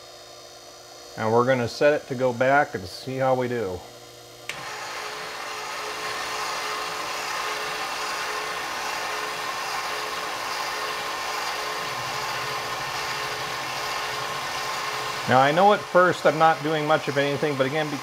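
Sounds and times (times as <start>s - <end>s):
spindle motor whine: 0.0s - 18.0s.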